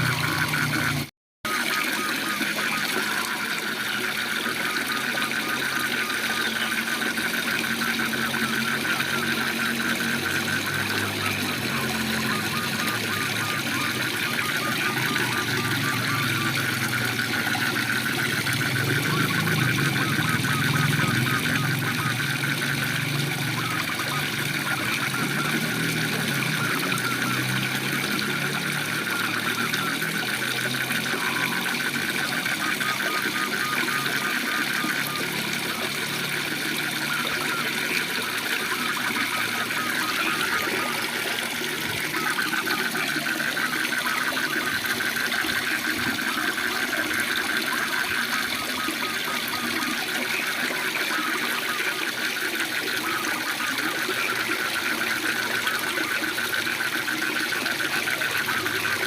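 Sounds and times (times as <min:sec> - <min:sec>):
frogs trilling: 0:00.0 - 0:59.0.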